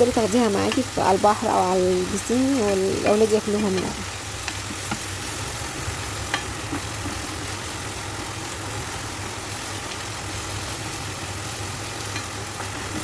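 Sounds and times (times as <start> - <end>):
liver sizzling in frying pan: 0.0 - 13.0.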